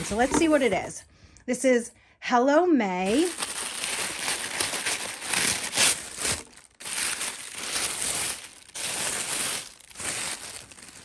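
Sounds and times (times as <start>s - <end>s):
tissue paper crinkling: 0.0s - 0.9s, 3.0s - 11.0s.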